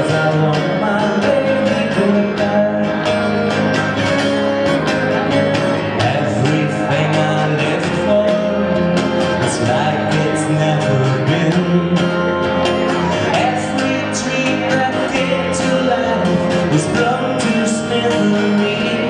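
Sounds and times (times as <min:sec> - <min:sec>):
male vocals: 0:00.0 - 0:03.3, 0:05.9 - 0:19.0
guitar: 0:00.0 - 0:19.0.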